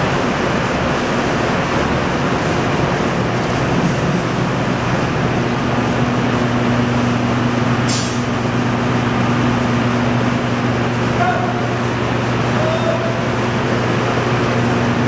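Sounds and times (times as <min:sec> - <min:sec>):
machinery drone: 0:00.0 - 0:15.0.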